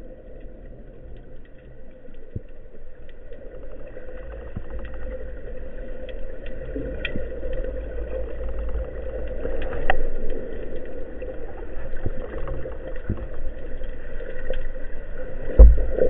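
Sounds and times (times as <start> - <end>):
deep underwater noise: 0.0 - 16.0
faint clicks: 0.0 - 16.0.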